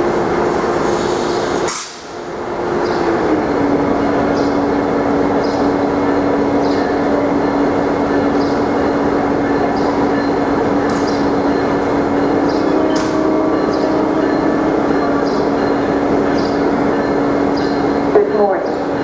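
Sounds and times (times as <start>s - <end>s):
idling train hum: 0.0s - 19.0s.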